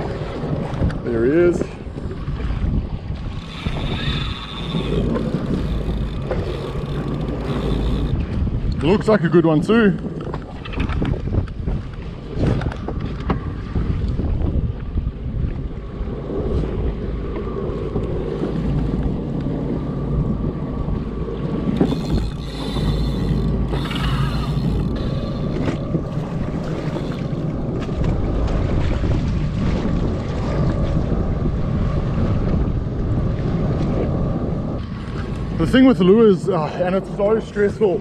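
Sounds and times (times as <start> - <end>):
choppy sea water: 0.0 - 38.0
wind buffeting microphone: 0.0 - 38.0.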